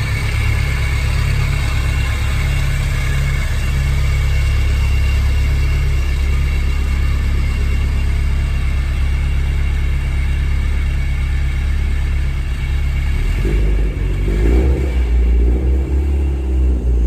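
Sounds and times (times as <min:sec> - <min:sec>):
turbocharged car engine running: 0:00.0 - 0:17.0.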